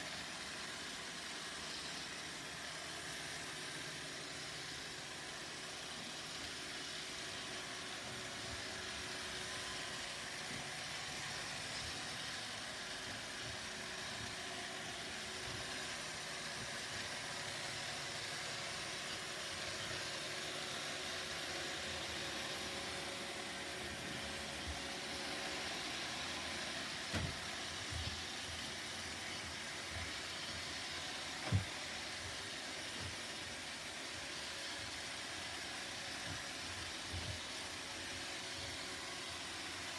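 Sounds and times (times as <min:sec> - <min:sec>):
robot vacuum whirring: 0:00.1 - 0:39.9.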